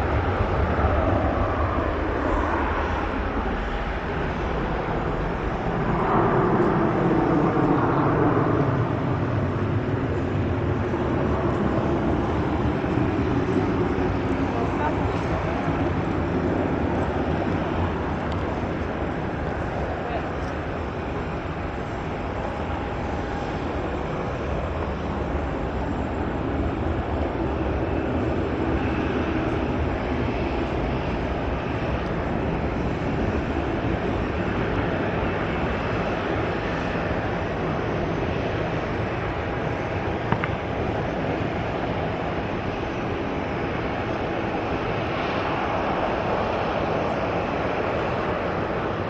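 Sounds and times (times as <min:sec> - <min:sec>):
jet airliner engines rumbling: 0:00.0 - 0:49.0.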